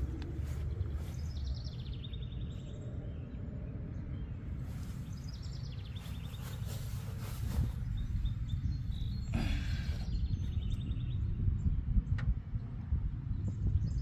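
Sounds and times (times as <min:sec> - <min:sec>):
low rumble of outdoor noise: 0:00.0 - 0:14.0
small birds chirping: 0:00.0 - 0:14.0.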